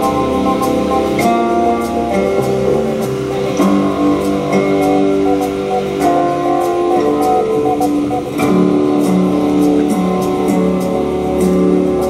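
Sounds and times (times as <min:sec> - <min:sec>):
guitar music from cassette: 0:00.0 - 0:12.0.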